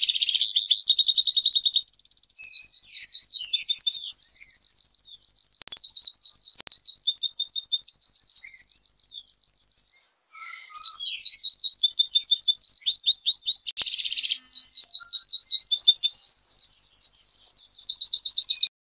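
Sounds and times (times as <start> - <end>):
songbird singing trills: 0.0 - 18.7.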